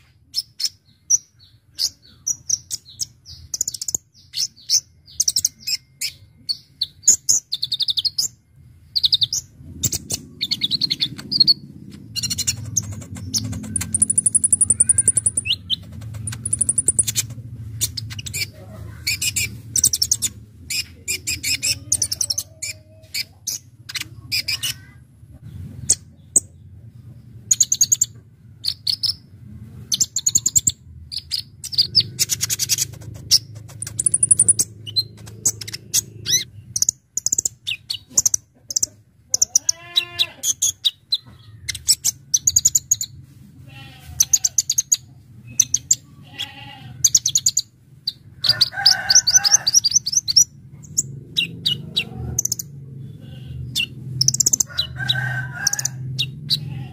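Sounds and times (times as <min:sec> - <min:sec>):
bird chirping and trilling: 0:00.0 - 0:25.0, 0:27.4 - 0:29.3, 0:29.9 - 0:43.1, 0:43.8 - 0:56.9.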